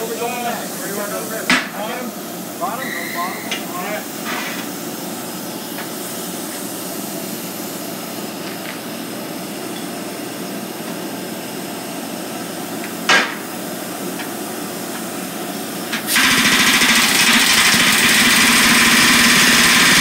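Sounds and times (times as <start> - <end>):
steady machine noise: 0.0 - 9.7, 10.3 - 20.0.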